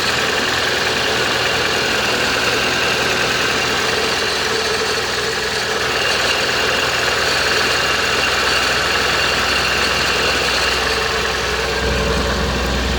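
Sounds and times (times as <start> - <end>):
car engine idling: 0.0 - 12.9
whining rattling alternator bearing: 0.0 - 12.9.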